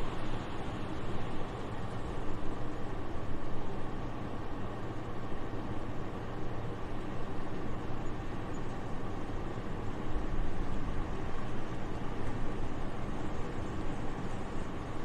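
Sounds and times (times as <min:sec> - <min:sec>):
soft steady wind: 0:00.0 - 0:15.0.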